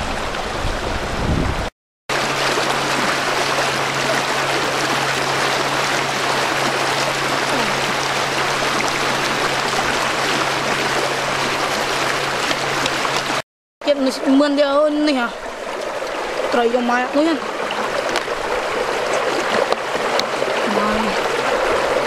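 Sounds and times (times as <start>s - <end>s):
shallow water rushing: 0.0s - 22.0s.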